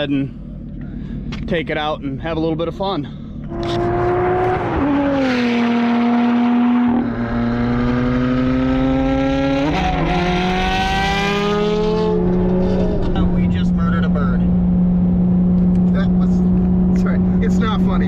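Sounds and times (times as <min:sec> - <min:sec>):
sports car engine under load: 0:00.0 - 0:18.0.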